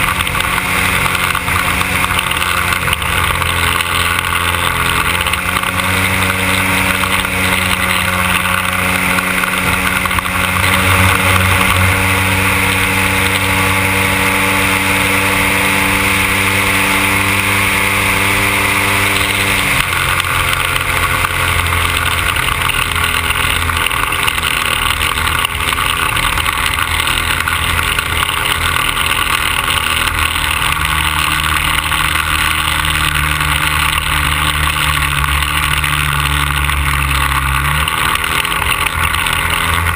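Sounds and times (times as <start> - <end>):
model plane gasoline engine running: 0.0 - 39.9.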